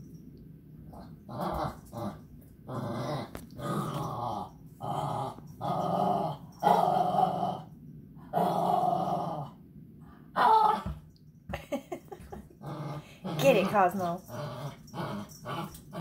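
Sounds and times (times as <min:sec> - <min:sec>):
small dog play growling: 0:00.8 - 0:09.6, 0:10.4 - 0:11.1, 0:12.0 - 0:16.0.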